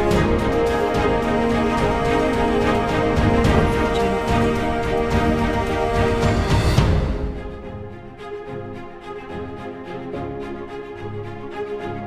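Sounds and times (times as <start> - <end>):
orchestral music with a beat: 0.0 - 12.0.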